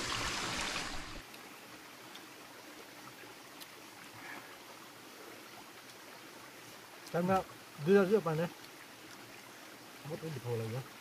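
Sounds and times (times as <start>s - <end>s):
faint steady hiss: 0.0s - 11.0s
rushing stream water: 0.0s - 11.0s.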